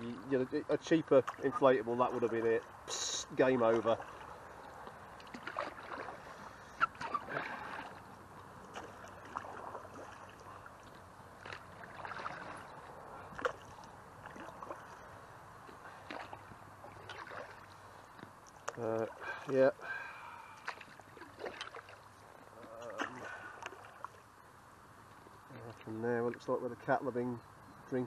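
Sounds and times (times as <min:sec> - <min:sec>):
small water splashes and drips: 0:00.8 - 0:24.4
paddle dipping through water: 0:01.1 - 0:26.4.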